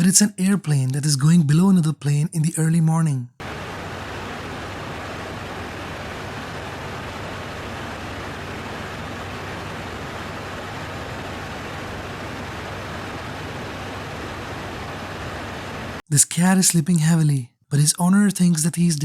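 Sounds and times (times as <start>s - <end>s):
faint low hum: 0.0s - 17.5s.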